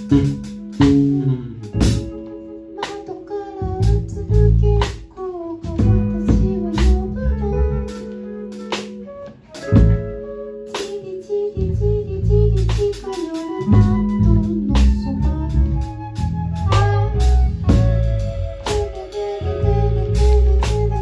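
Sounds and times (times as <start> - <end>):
bass guitar: 0.0 - 21.0
drum kit with cymbals: 0.0 - 21.0
electric guitar: 0.0 - 21.0.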